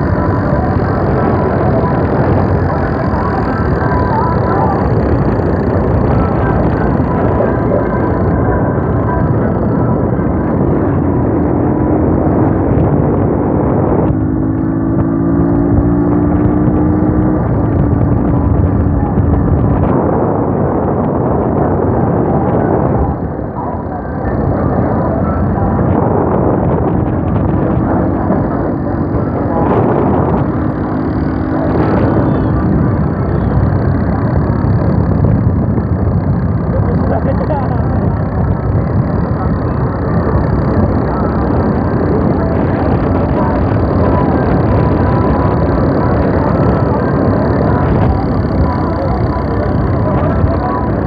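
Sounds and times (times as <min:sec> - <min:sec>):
motorcycle engine running: 0:00.0 - 0:51.0
tractor engine running: 0:00.0 - 0:51.0
two-note engine hum: 0:00.0 - 0:51.0
wind rush over microphone: 0:00.0 - 0:51.0.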